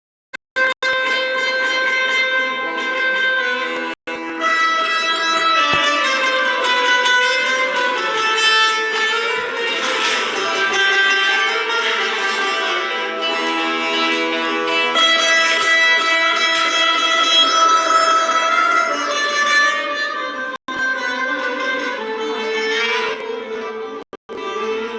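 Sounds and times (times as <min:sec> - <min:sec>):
plucked string instrument melody: 0:00.6 - 0:24.9.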